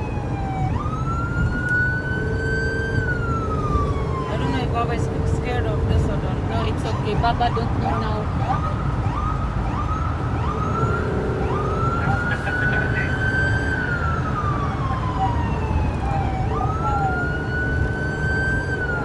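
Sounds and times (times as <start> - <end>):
ambulance siren yelping and wailing: 0.0 - 19.0
engine and road rumble: 0.0 - 19.0.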